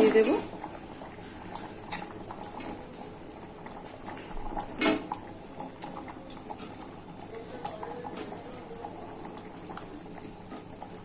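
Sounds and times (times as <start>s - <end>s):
gravy bubbling: 0.0s - 11.0s.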